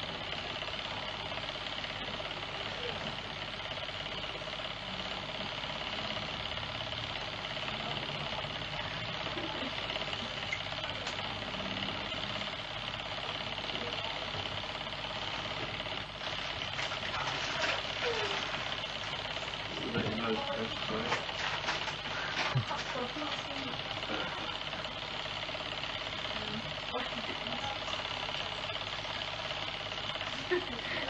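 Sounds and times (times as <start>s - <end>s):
fast rattle: 0.0s - 31.0s
mechanical whirring hum: 0.0s - 31.0s.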